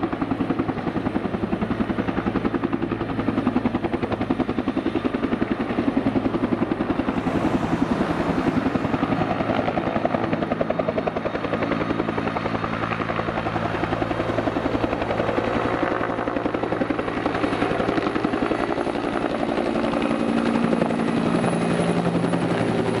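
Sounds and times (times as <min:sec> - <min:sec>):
helicopter engine hum: 0:00.0 - 0:23.0
helicopter rotor chopping: 0:00.0 - 0:23.0.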